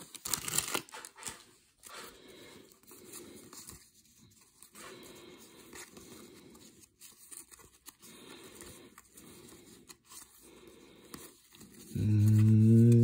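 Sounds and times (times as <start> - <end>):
cards sliding with papery rustle: 0.0 - 13.0.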